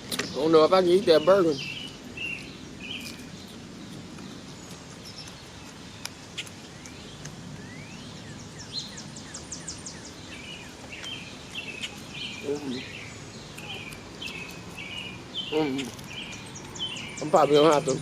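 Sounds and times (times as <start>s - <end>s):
birds chirping: 0.0s - 18.0s
outdoor background noise: 0.0s - 18.0s.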